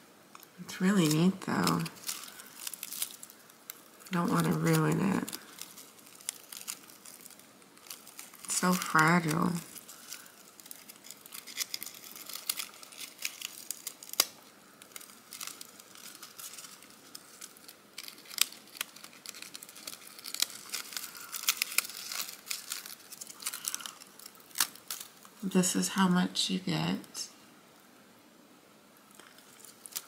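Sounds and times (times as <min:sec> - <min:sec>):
foil netting crinkling and crackling: 0:00.2 - 0:25.5, 0:29.1 - 0:30.0.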